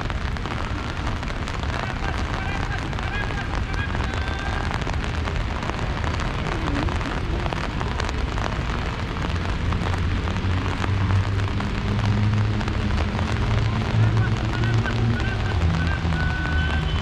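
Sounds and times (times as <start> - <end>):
rain patter: 0.0 - 17.0.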